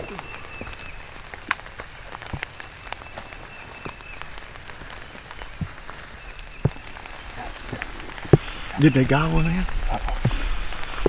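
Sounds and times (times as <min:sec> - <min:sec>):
raindrops ticking on surface: 0:00.0 - 0:11.0
steady rain: 0:00.0 - 0:11.0.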